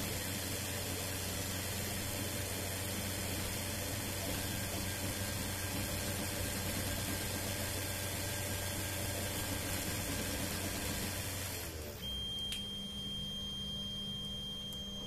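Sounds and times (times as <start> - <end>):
printer motors and fans whirring: 0.0 - 15.0.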